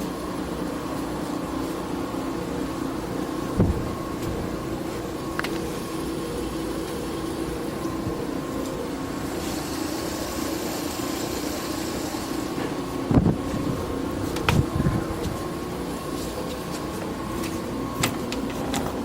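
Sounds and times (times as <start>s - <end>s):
dishwasher motor hum: 0.0s - 19.0s.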